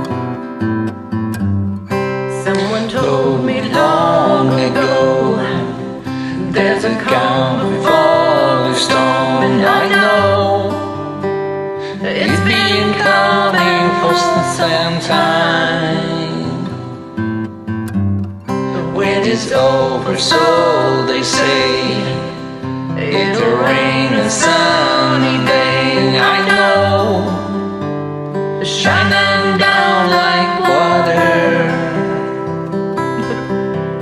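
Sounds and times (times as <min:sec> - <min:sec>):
strummed acoustic guitar: 0:00.0 - 0:34.0
person singing: 0:02.3 - 0:17.0, 0:18.6 - 0:27.8, 0:28.5 - 0:33.8.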